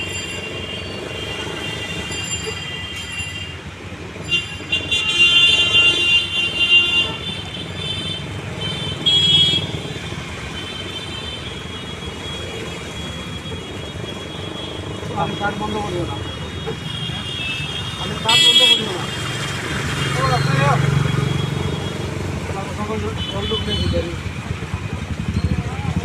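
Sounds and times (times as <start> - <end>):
vehicle horns: 0.0 - 22.2, 22.8 - 24.3
traffic rumble: 0.0 - 26.0.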